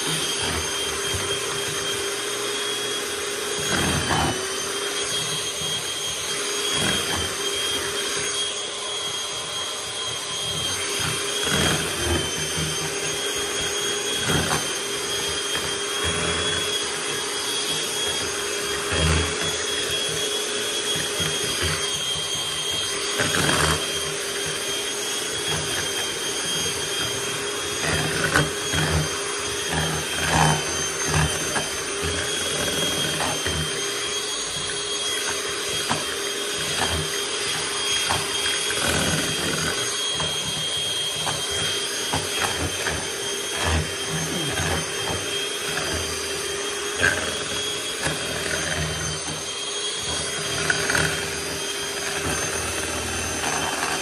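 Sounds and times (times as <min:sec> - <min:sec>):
electric hand mixer running: 0:00.0 - 0:54.0.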